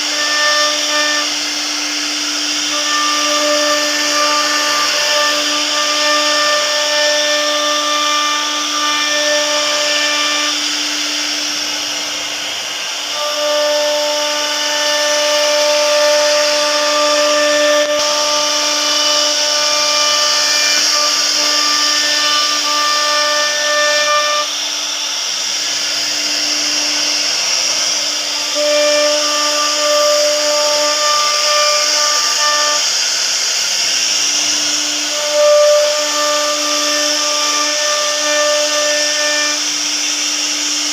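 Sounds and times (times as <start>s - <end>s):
higher cutting tones: 0.0s - 40.9s
router spindle carving wood: 0.0s - 40.9s.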